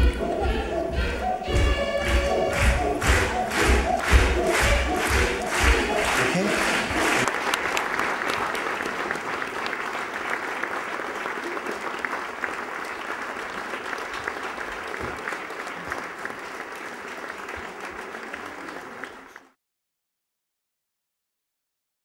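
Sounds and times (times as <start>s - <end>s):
audience applauding: 0.0s - 19.6s.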